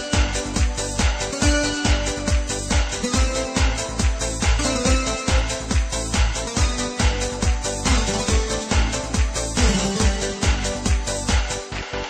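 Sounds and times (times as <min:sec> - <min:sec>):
music with heavy drum beat: 0:00.0 - 0:12.0.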